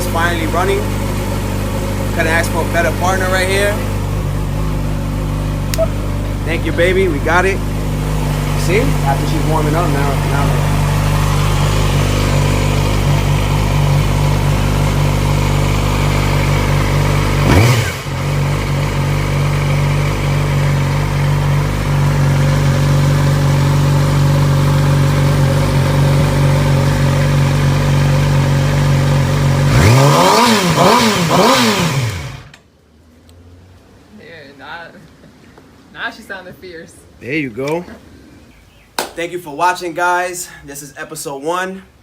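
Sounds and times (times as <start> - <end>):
motorcycle engine idling and revving: 0.0 - 34.1.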